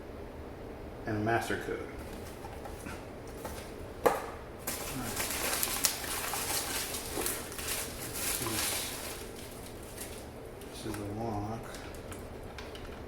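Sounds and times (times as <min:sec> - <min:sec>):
cardboard and plastic packaging rustling: 0:02.0 - 0:13.0.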